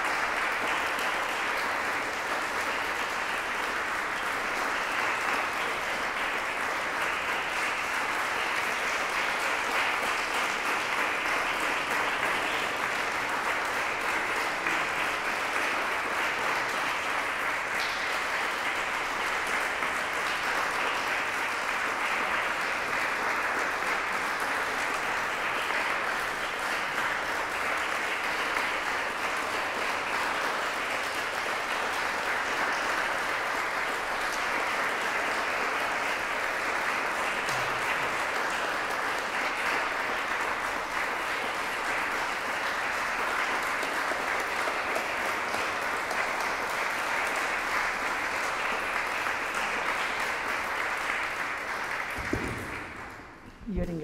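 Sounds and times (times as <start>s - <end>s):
audience applause: 0.0s - 54.0s.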